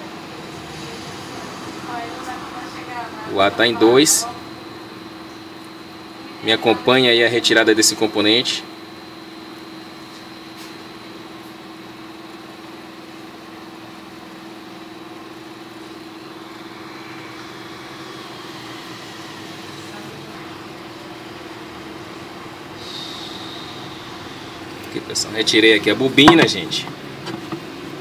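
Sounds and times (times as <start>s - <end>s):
hot air station blowing and humming: 0.0s - 28.0s.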